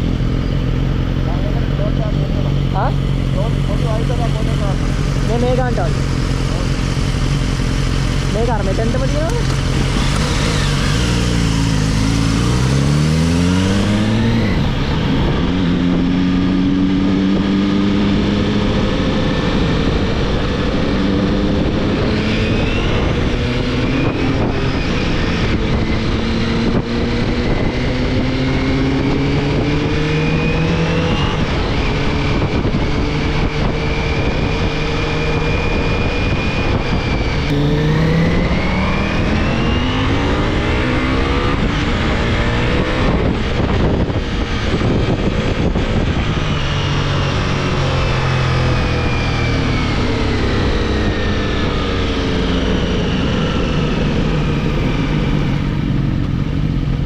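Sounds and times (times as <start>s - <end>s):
motorcycle engine accelerating: 0.0s - 57.0s
wind on microphone: 1.8s - 57.0s.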